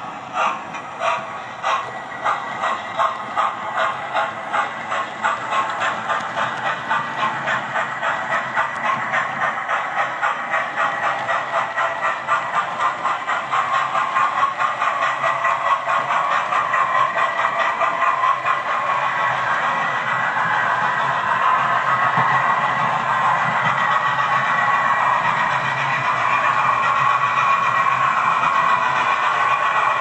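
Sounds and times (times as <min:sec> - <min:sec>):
model train steam chuffs: 0:00.0 - 0:30.0.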